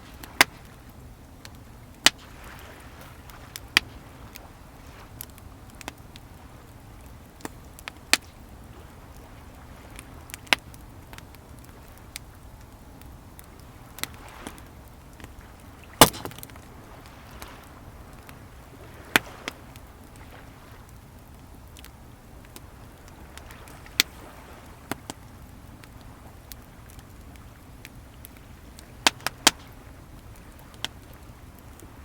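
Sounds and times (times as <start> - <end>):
sea waves washing: 0.0 - 32.0
wood fire crackling and popping: 0.0 - 32.0.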